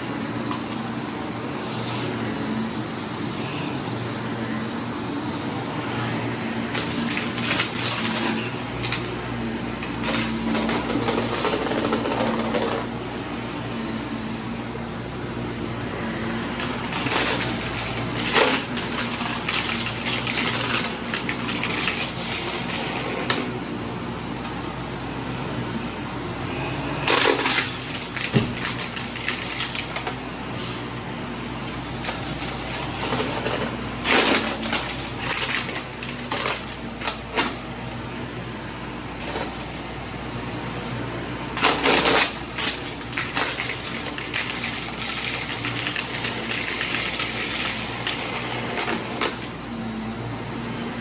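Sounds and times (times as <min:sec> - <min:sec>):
vacuum cleaner running: 0:00.0 - 0:51.0
debris rattling through vacuum: 0:06.2 - 0:24.0, 0:26.5 - 0:38.0, 0:39.0 - 0:51.0.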